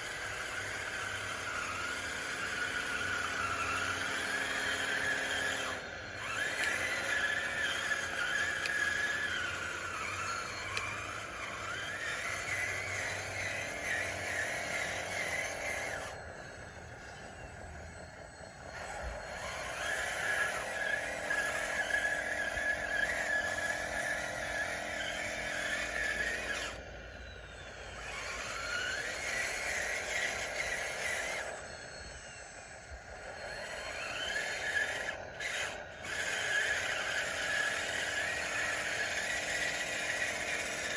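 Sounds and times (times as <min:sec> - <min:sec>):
electric motors and gearbox whining: 0:00.0 - 0:40.9.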